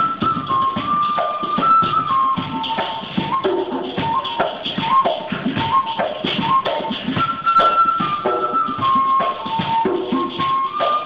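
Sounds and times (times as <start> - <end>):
bamboo flute melody: 0.0 - 11.0
hand drums and light percussion: 0.0 - 11.0.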